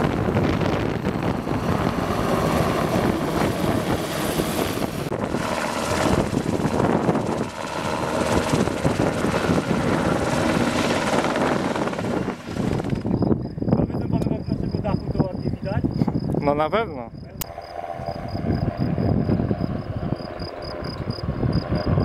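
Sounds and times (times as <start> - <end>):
helicopter engine rush: 0.0 - 22.0
helicopter rotor chopping: 0.0 - 22.0.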